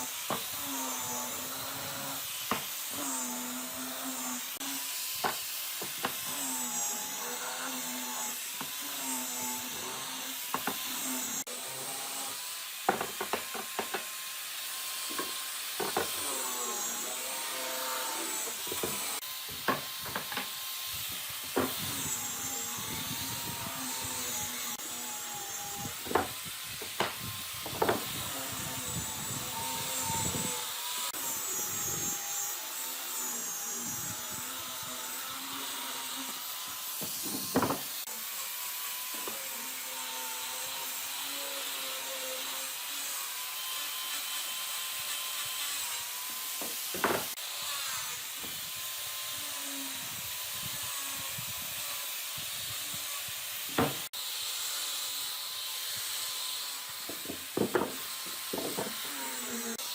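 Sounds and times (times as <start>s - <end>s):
tool rasping wood: 0.0s - 54.2s, 55.8s - 59.9s.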